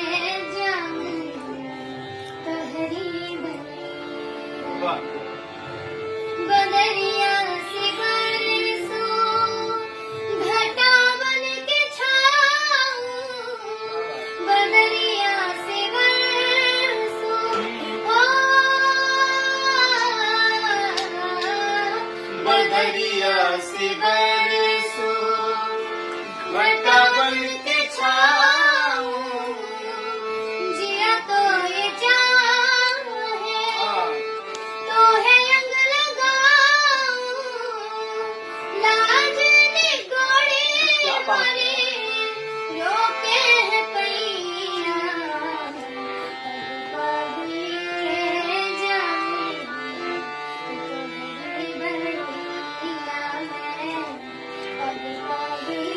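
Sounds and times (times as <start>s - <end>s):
girl singing: 0.0s - 4.6s, 6.4s - 54.2s, 54.8s - 55.9s
held drone note: 0.0s - 55.9s.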